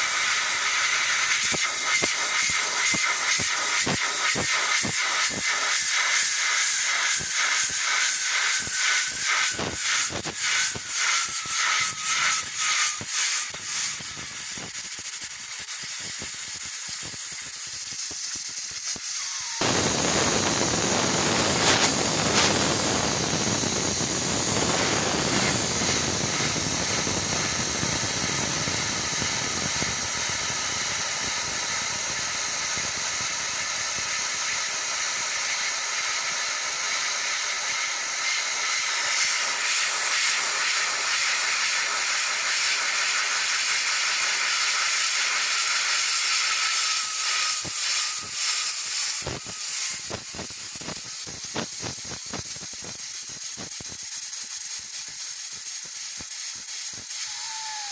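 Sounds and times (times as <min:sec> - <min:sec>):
pressure cooker steam hissing: 0:00.0 - 0:57.9.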